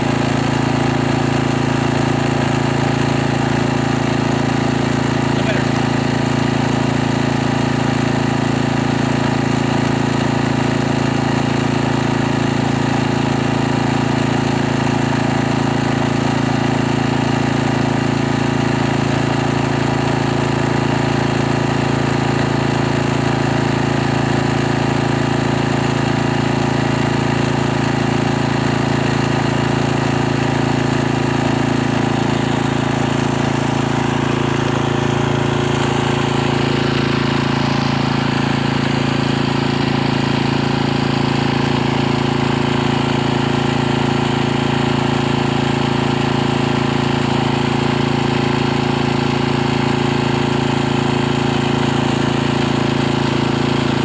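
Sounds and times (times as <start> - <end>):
portable generator running: 0.0 - 54.0.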